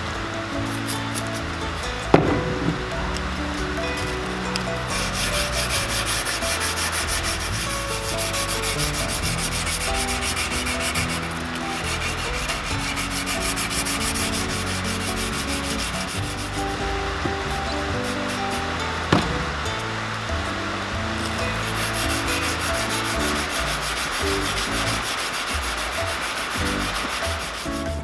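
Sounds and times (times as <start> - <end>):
background music: 0.0 - 28.0
rhythmic sanding strokes on blade: 0.0 - 28.0.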